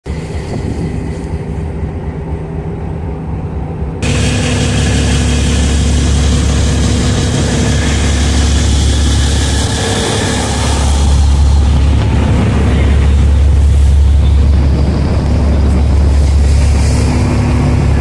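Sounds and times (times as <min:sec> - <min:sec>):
engine hum and rumble: 0:00.0 - 0:18.0
rushing noise: 0:00.1 - 0:18.0.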